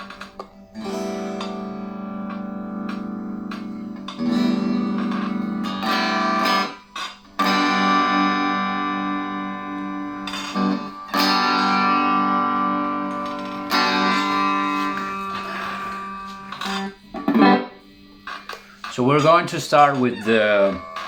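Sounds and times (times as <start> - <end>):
electric guitar chords strummed: 0.0 - 21.0.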